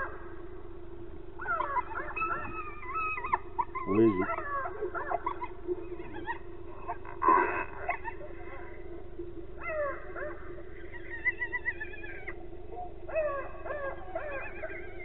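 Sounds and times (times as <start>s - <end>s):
wavering high hyena call: 0.0s - 0.3s, 1.4s - 15.0s
steady low hum: 0.0s - 15.0s
hyena wails: 1.4s - 8.8s, 9.6s - 12.4s, 13.1s - 15.0s.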